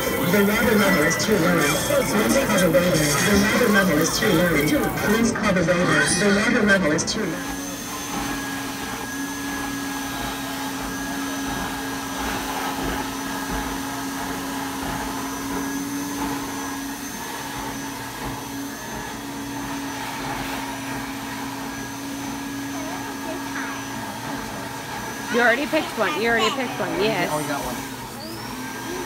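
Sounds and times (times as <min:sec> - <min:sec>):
blower motor running: 0:00.0 - 0:29.0.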